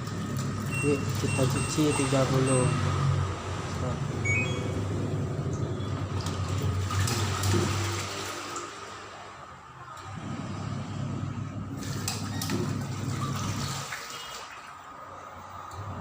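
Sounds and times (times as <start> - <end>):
washing machine filling with water: 0.0 - 16.0.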